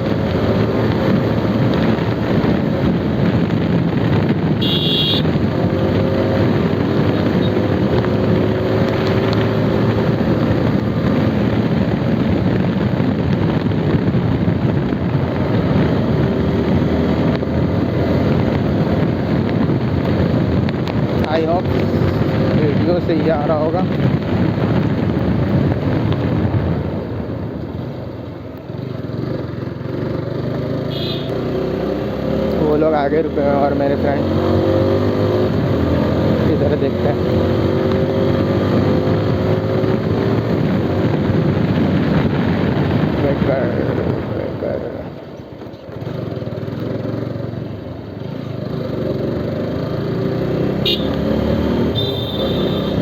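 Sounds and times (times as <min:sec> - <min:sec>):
motorcycle engine running: 0:00.0 - 0:33.9, 0:34.5 - 0:53.0.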